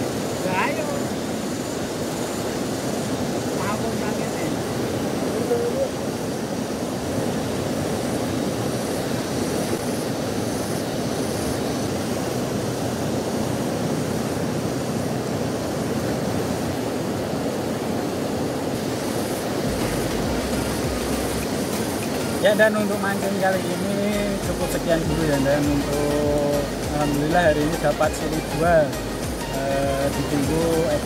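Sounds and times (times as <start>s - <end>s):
river rushing over rapids: 0.0s - 31.0s.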